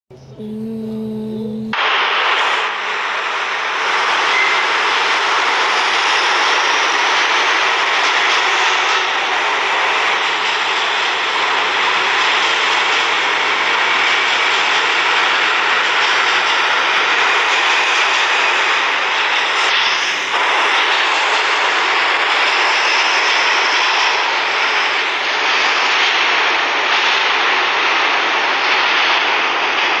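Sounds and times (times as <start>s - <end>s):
loud steady rushing noise: 0.1s - 30.0s.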